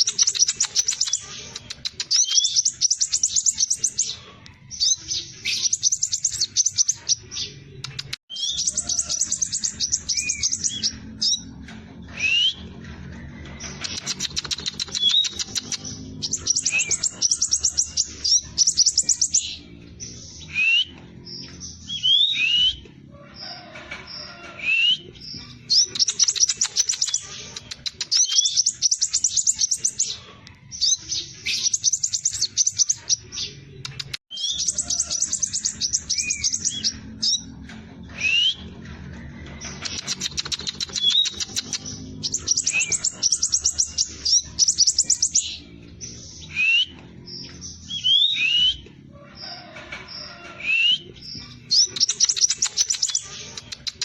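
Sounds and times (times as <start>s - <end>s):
bird singing fast trills: 0.0s - 4.2s, 4.8s - 11.5s, 13.6s - 22.8s, 24.7s - 30.2s, 30.8s - 37.5s, 39.6s - 48.8s, 50.6s - 54.0s.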